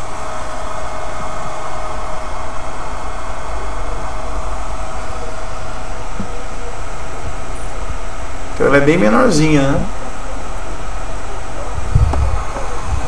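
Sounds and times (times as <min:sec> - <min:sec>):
constant mid-pitched tone: 0:00.0 - 0:13.0
equipment whirring hum and hiss: 0:00.0 - 0:13.0.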